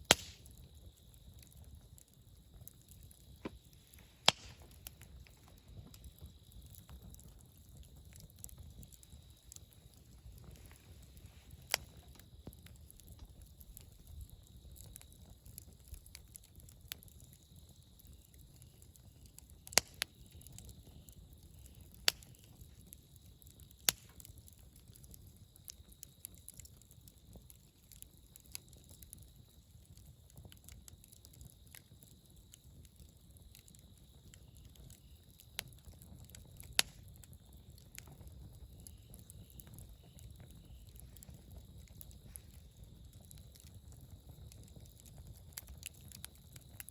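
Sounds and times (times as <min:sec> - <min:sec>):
campfire burning: 0:00.0 - 0:46.9
fire crackles and pops: 0:00.0 - 0:46.9.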